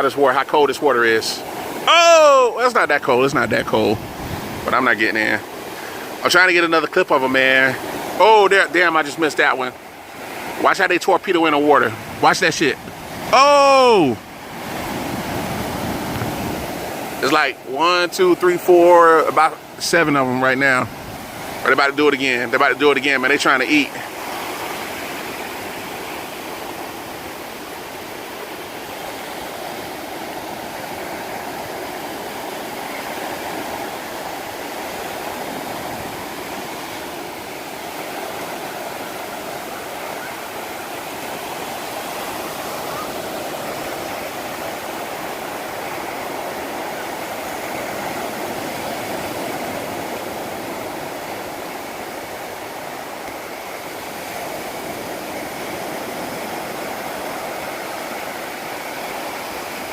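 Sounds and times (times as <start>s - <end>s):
ocean surf washing on beach: 0.0s - 59.9s.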